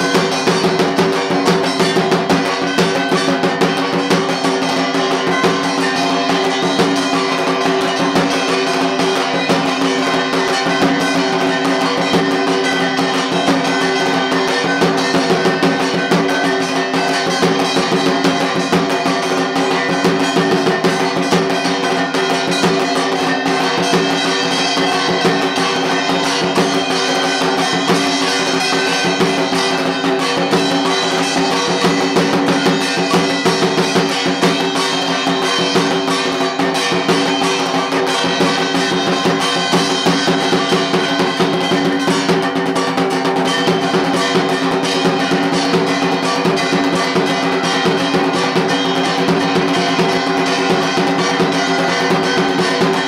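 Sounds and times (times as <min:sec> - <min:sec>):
drum-led music: 0:00.0 - 0:53.0.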